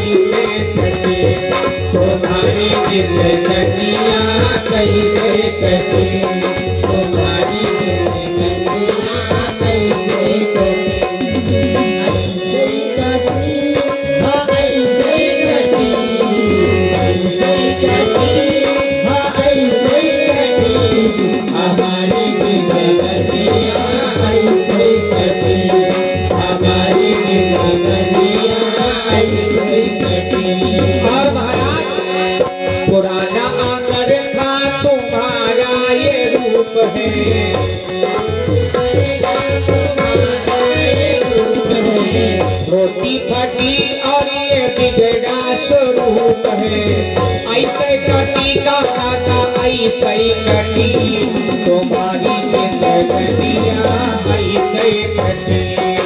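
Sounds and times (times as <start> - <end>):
hand drum beat: 0.0 - 56.0
rattling percussion: 0.0 - 56.0.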